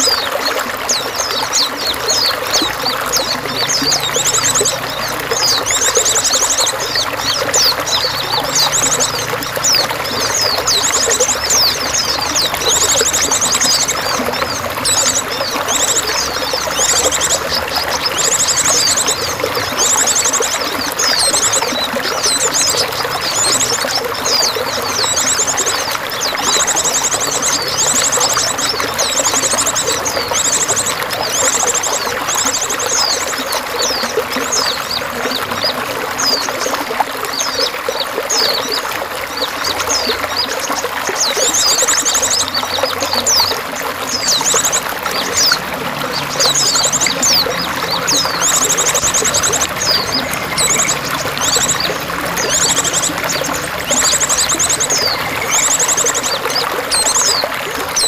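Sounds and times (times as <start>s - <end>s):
songbirds chirping and trilling: 0.0s - 58.0s
trickling water: 0.0s - 58.0s.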